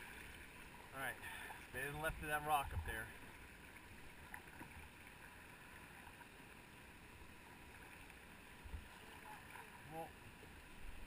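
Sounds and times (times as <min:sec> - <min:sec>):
faint water noise from canoe: 0:00.0 - 0:11.0.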